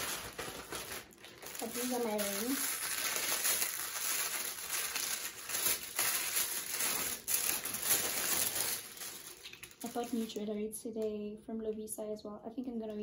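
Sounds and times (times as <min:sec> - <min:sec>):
tissue paper rustling: 0:00.0 - 0:10.5.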